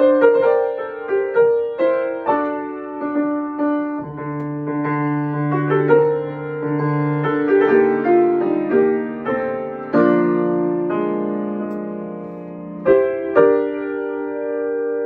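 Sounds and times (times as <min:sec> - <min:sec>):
grand piano playing chords: 0:00.0 - 0:15.0.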